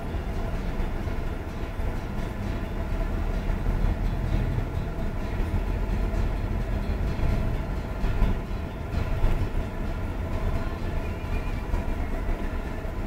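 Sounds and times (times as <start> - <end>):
car engine: 0.0 - 13.0
road traffic rumble: 0.0 - 13.0.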